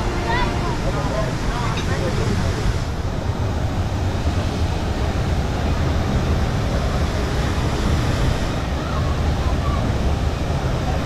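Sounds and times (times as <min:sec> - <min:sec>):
river rapids rushing water: 0:00.0 - 0:11.0.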